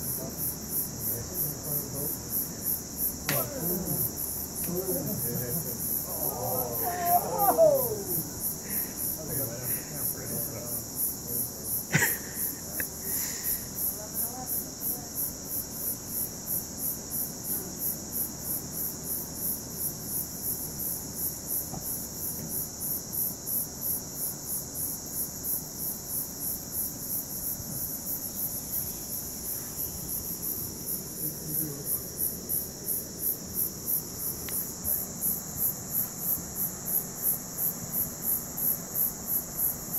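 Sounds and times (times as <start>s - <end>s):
constant high hiss: 0.0s - 39.9s
night insects chirping: 0.0s - 39.9s.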